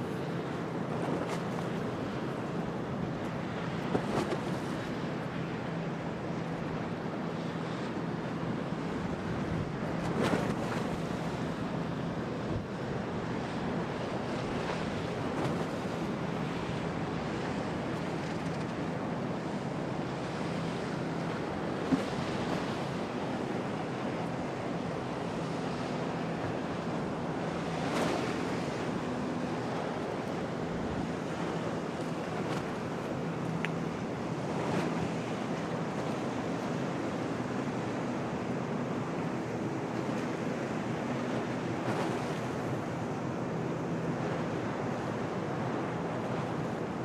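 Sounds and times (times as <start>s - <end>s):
waves and surf: 0.0s - 47.0s.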